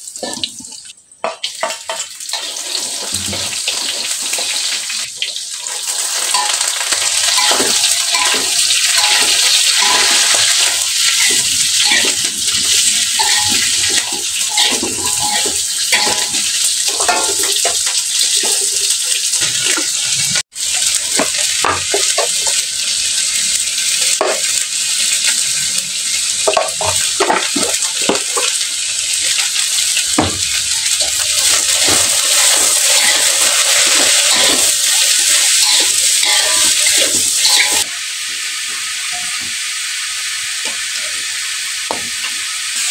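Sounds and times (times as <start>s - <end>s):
food sizzling in a frying pan: 0.0s - 42.9s.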